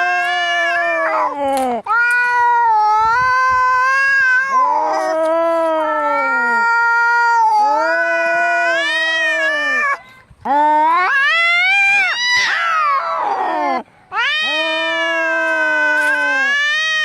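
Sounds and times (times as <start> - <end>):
cats yowling in a fight: 0.0 - 10.0, 10.6 - 17.0.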